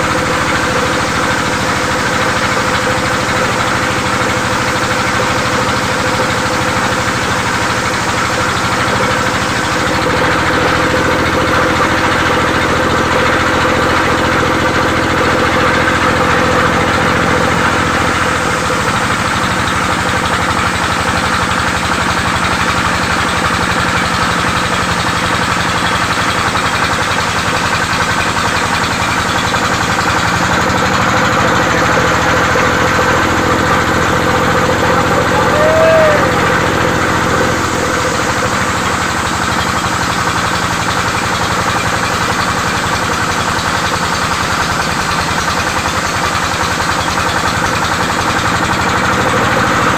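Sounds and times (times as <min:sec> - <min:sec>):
power saw engine running: 0:00.0 - 0:49.9.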